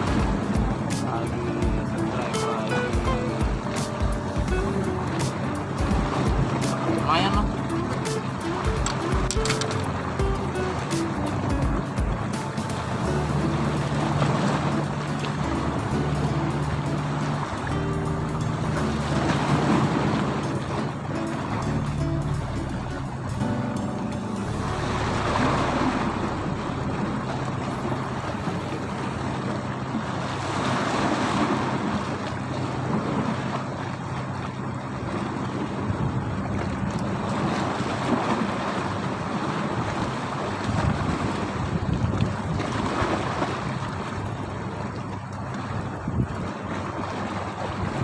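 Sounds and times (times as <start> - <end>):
wind buffeting microphone: 0.0 - 32.2, 35.0 - 48.0
waves washing around boat: 0.0 - 48.0.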